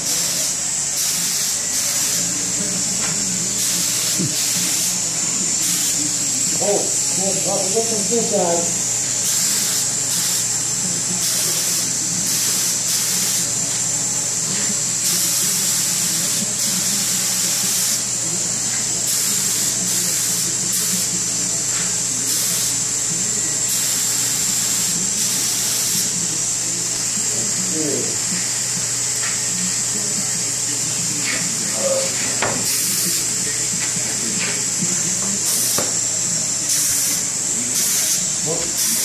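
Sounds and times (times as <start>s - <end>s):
steady low hum: 0.0s - 38.9s
spray gun hissing bursts: 0.0s - 39.0s.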